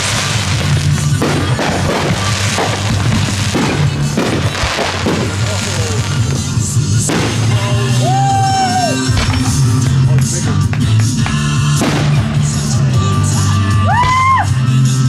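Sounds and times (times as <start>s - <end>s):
fireworks bangs: 0.0s - 15.0s
loud recorded music: 0.0s - 15.0s.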